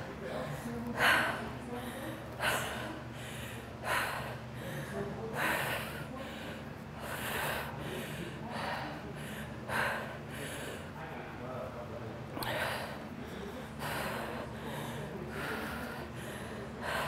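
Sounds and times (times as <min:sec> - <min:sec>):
woman breathing hard: 0:00.5 - 0:10.9, 0:12.4 - 0:17.0.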